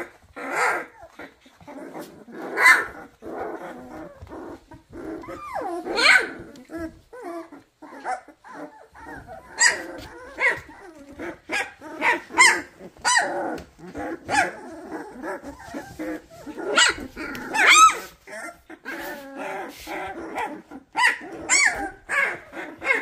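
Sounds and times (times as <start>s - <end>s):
puppies squealing and yelping: 0.0s - 23.0s
puppies whining and grunting: 0.0s - 23.0s.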